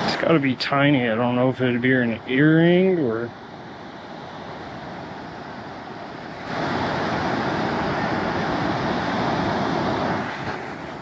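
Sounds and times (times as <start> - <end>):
surf on beach: 0.0 - 11.0
wind: 0.0 - 11.0.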